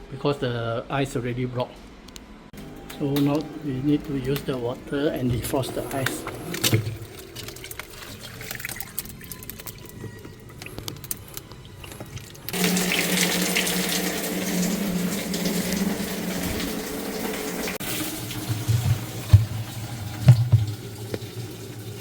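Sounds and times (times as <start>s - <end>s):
water running: 3.0s - 22.0s.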